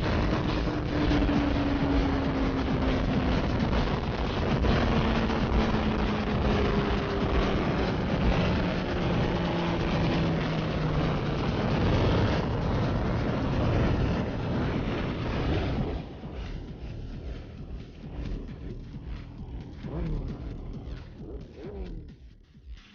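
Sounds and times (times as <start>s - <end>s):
wind rush: 0.0s - 21.6s
motorcycle engine at speed: 0.0s - 22.9s.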